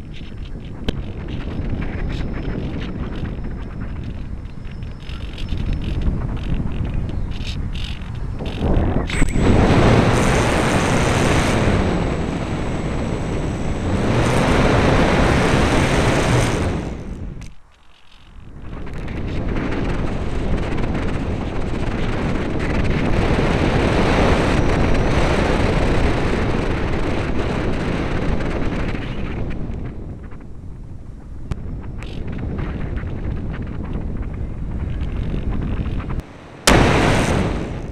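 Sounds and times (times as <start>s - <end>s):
wind buffeting microphone: 0.0s - 17.6s, 18.4s - 37.9s.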